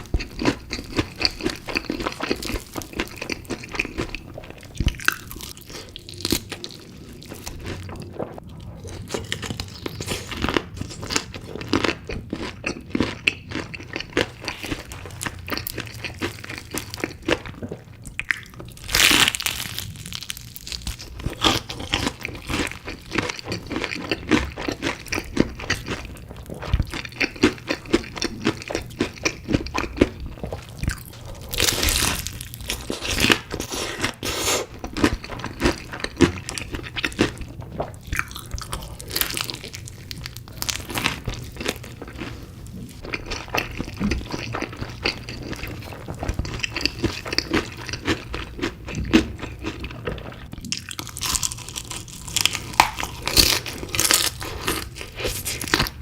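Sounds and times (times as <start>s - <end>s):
crunching and chewing crisp chicken: 0.0s - 56.0s.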